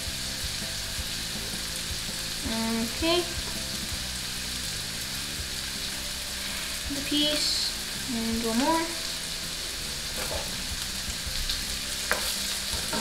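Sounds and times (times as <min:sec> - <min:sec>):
vegetables sizzling in frying pan: 0:00.0 - 0:13.0.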